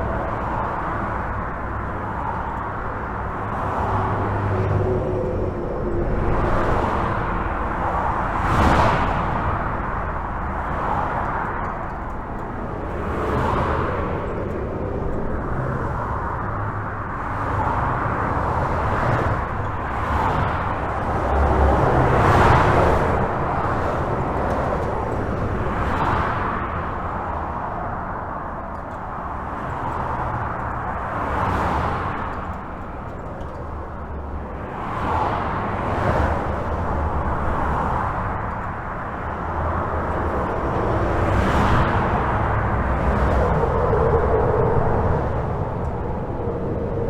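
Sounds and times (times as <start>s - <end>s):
highway traffic passing: 0.0s - 47.0s.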